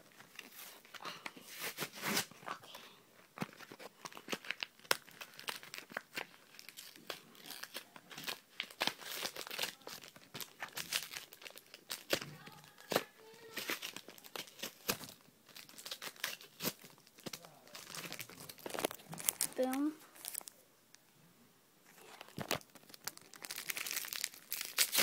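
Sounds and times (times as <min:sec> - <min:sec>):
foil wrapper crinkling and tearing: 0:03.4 - 0:20.6, 0:22.0 - 0:25.0.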